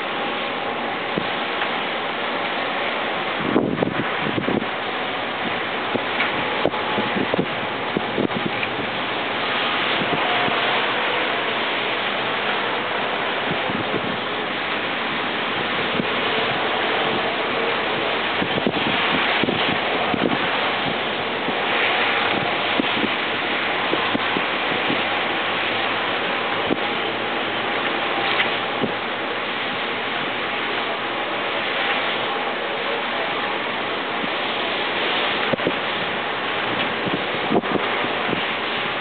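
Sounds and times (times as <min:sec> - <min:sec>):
distant road traffic: 0:00.0 - 0:39.0
wind buffeting microphone: 0:02.6 - 0:32.3, 0:33.6 - 0:39.0.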